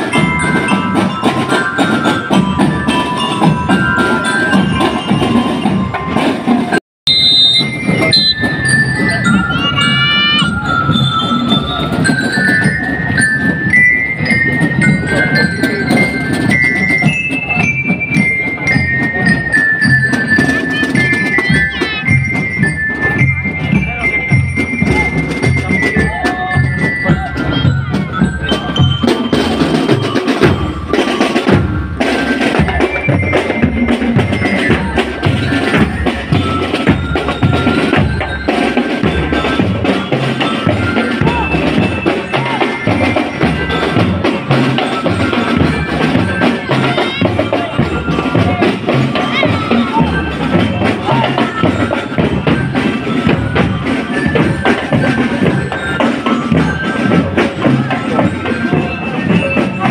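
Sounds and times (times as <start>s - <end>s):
bell lyres playing melody: 0.0s - 59.9s
snare and bass drums: 0.0s - 59.9s.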